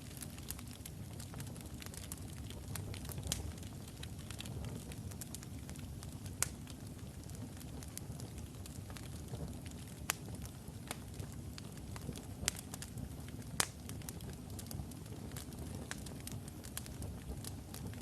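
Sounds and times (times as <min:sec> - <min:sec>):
logs burning in fireplace: 0:00.0 - 0:18.0.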